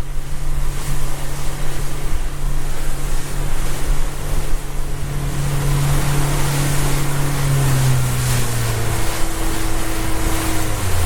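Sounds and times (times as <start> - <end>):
boat engine humming: 0.0 - 11.0
sea splashing: 0.0 - 11.0
wind: 0.0 - 11.0.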